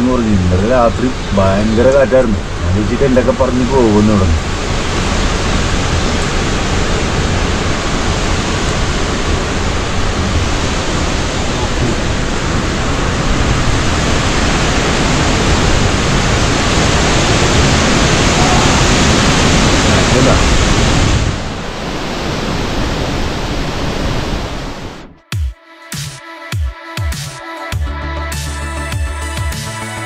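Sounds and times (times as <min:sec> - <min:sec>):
strong wind rushing through trees: 0:00.0 - 0:25.2
wind buffeting microphone: 0:00.0 - 0:25.2.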